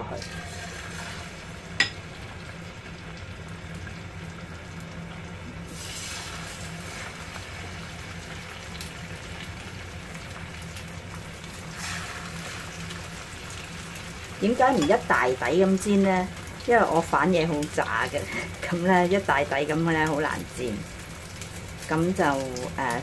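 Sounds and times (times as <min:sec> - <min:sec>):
batter sizzling in hot oil: 0:00.0 - 0:23.0.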